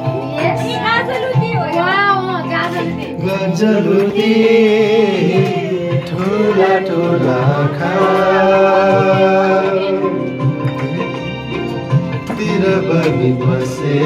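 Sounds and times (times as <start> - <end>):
steady musical accompaniment: 0.0 - 14.0.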